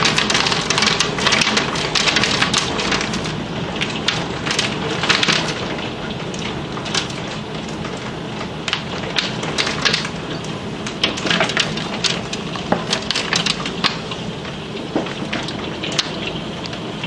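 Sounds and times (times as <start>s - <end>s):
hailstones cracking on hard surfaces: 0.0s - 17.0s
rain and hail hissing: 0.0s - 17.0s.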